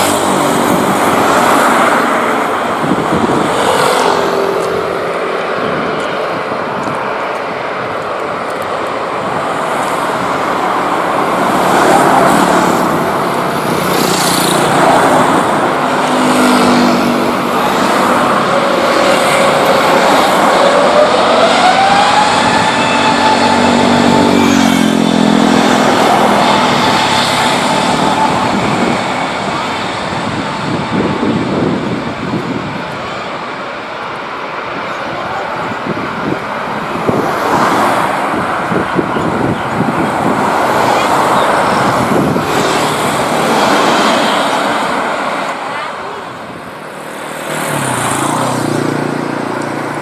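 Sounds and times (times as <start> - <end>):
jet engine roar: 0.0 - 50.0
rising engine whine: 0.0 - 50.0.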